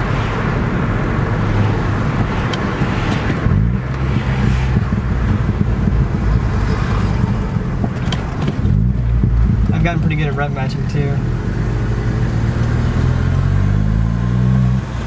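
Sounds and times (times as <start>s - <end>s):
car engine running: 0.0s - 15.0s
road and wind noise: 0.0s - 15.0s.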